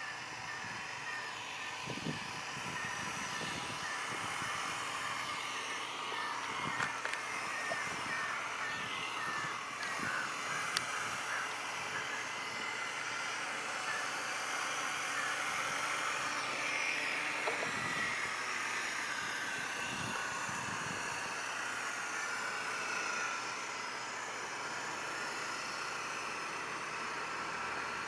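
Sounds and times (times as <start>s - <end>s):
model boat motor whirring: 0.0s - 28.0s.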